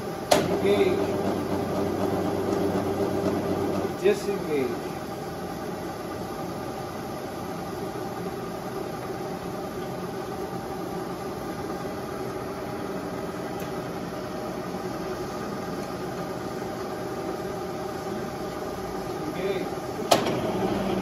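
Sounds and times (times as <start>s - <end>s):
lathe machine hum: 0.0s - 21.0s.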